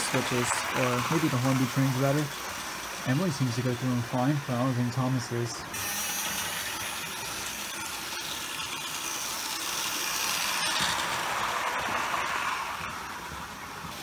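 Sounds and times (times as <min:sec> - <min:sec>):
model trains whirring: 0:00.0 - 0:14.0.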